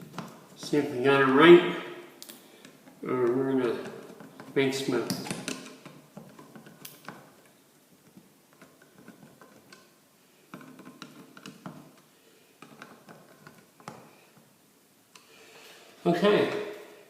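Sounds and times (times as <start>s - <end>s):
small handling noises: 2.2s - 16.7s.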